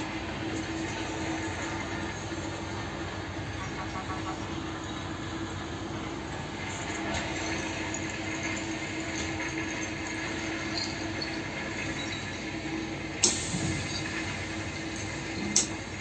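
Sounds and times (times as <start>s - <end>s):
locomotive cab hum: 0.0s - 16.0s.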